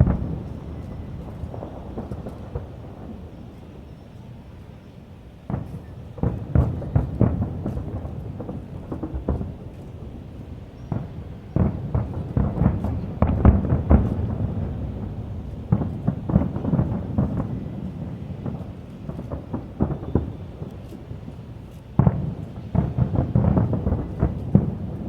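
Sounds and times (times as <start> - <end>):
fireworks booming: 0.0 - 4.1, 5.4 - 25.0.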